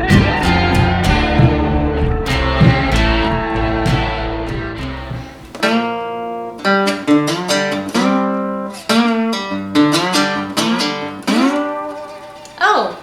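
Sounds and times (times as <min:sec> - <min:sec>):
guitar plucked notes and chords: 0:00.0 - 0:12.7
guitar strumming: 0:00.0 - 0:13.0.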